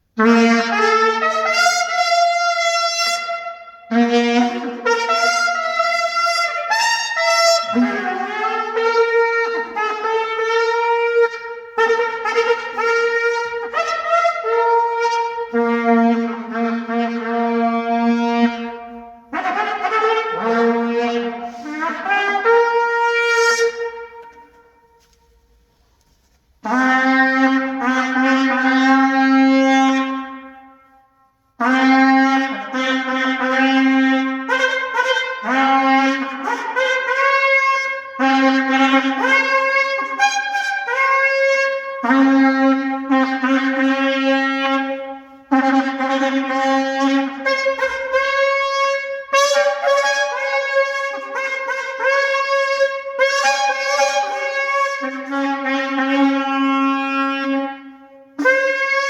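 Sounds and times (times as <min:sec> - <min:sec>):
horn shofar blasts: 0:00.0 - 0:25.4, 0:26.6 - 0:59.0.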